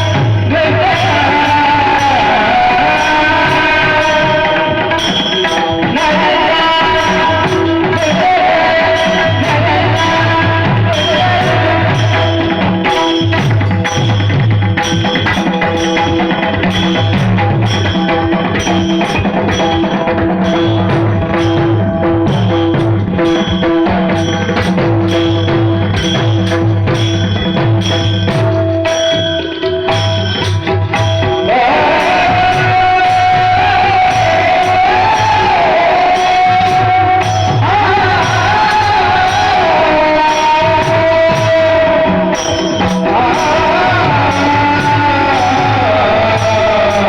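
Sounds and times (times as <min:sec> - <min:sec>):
drum beats: 0:00.0 - 0:47.0.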